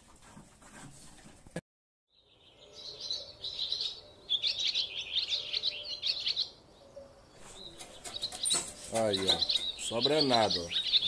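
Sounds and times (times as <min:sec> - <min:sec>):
birds twittering: 0:02.1 - 0:11.0.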